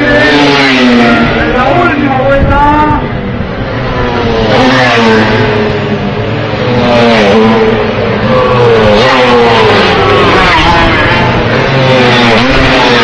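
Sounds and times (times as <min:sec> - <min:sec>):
racing motorcycles at high revs: 0:00.0 - 0:13.0.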